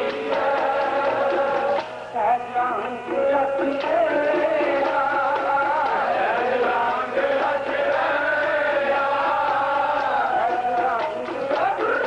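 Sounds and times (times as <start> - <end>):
harmonium: 0.0 - 12.0
person singing: 0.0 - 12.0.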